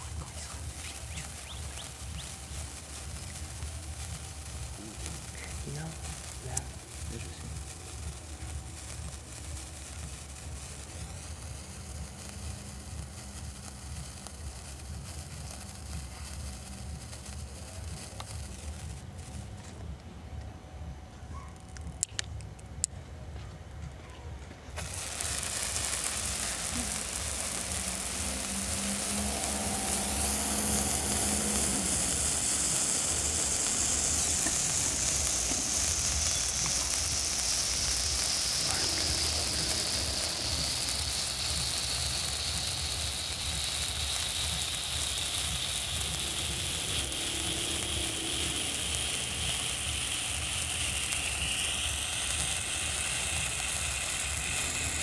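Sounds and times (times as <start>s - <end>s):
firework spraying sparks hissing: 0.0s - 20.4s, 24.7s - 55.0s.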